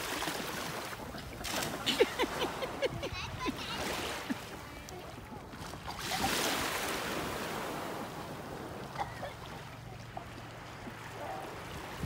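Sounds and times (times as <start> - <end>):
sea water lapping: 0.0 - 12.0.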